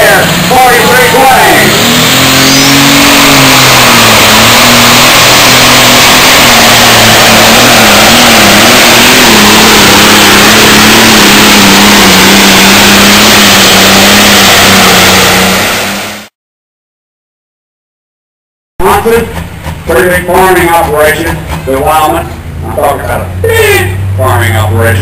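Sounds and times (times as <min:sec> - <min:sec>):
tractor diesel engine under load: 0:00.0 - 0:16.3, 0:18.8 - 0:25.0.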